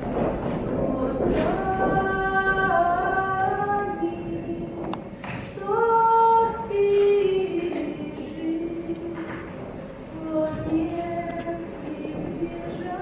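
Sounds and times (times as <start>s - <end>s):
woman singing slow melody: 0.9s - 9.6s, 10.2s - 13.0s.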